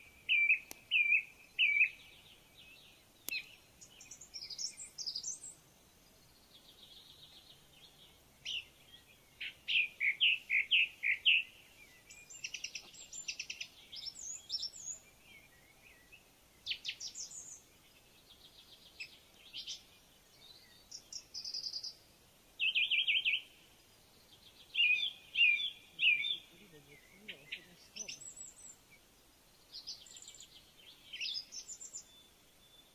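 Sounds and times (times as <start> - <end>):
faint outdoor background: 0.0 - 32.9
songbirds singing: 0.0 - 32.9.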